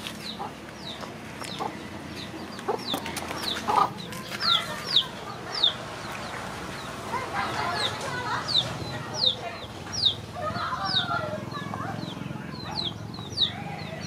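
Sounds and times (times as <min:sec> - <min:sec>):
chickens clucking: 0:00.0 - 0:14.0
chickens peeping: 0:00.0 - 0:14.0.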